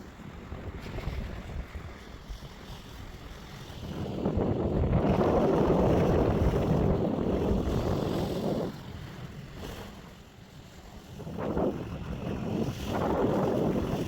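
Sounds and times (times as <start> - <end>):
surf at the shore: 0.0 - 14.0
wind buffeting microphone: 0.0 - 14.0.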